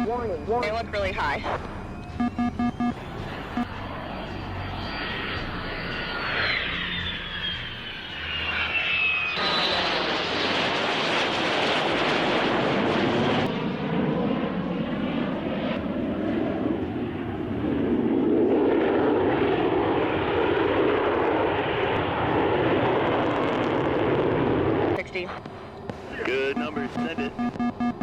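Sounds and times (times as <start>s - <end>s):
fighter jet engine: 0.0s - 28.0s.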